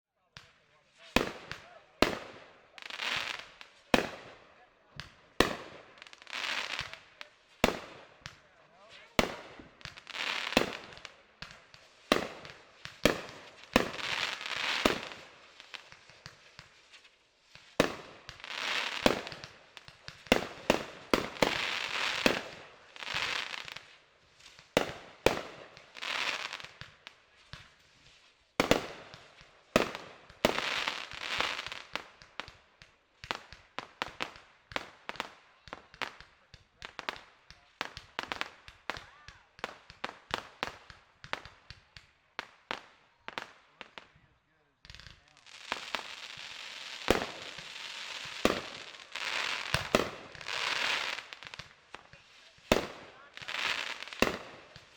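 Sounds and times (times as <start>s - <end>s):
fireworks crackling: 0.2s - 54.9s
fireworks bangs: 0.4s - 44.2s, 44.8s - 54.9s.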